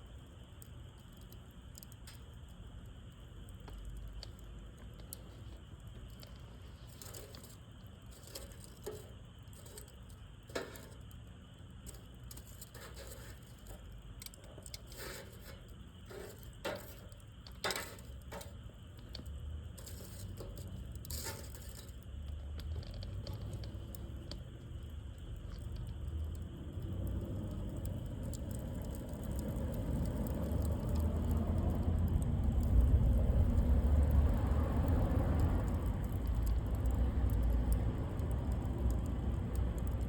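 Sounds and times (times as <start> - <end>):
campfire crackles and pops: 0.0 - 40.0
low fire rumble: 0.0 - 40.0.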